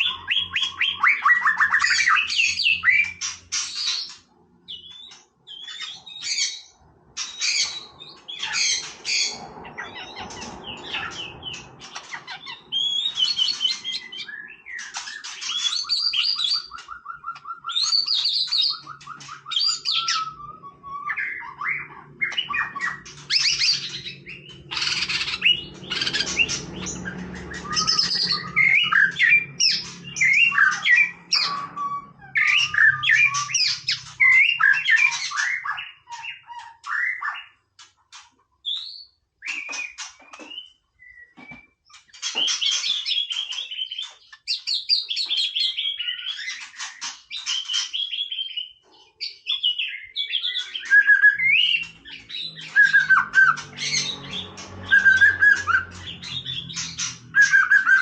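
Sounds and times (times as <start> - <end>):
bird singing whistled phrases: 0.0 - 3.2, 12.3 - 37.6, 38.7 - 48.8, 49.4 - 58.0.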